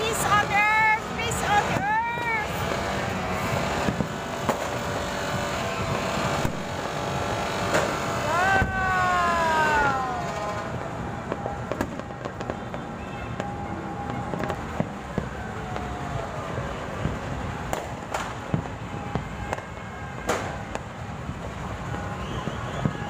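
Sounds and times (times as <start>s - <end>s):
city din: 0.0s - 22.0s
fireworks bursting and crackling: 0.0s - 23.0s.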